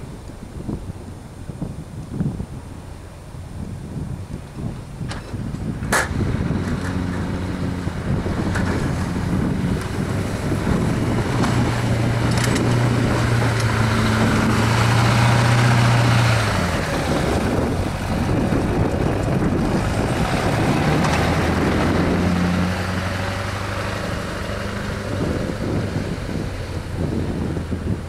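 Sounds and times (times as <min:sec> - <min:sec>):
diesel truck engine under load: 0:00.0 - 0:28.0.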